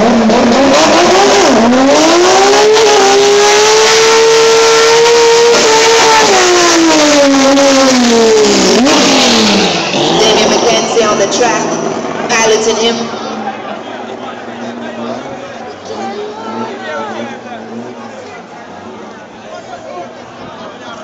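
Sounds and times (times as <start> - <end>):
car engine revving during burnout: 0.0 - 20.9
tyres spinning on track: 0.4 - 21.0.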